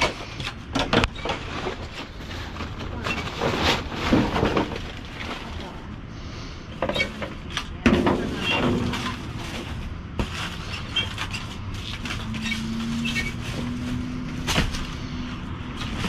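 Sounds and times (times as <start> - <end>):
trash rustling and scraping: 0.0 - 16.0.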